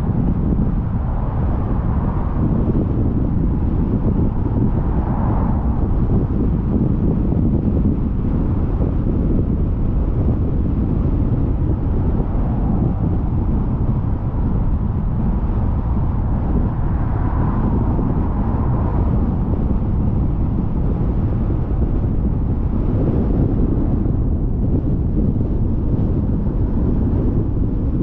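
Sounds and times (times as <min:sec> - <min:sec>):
car road and wind noise: 0:00.0 - 0:28.0.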